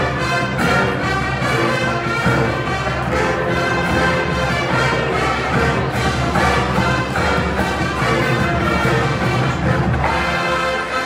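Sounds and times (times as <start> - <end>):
marching band playing brass: 0.0 - 11.0.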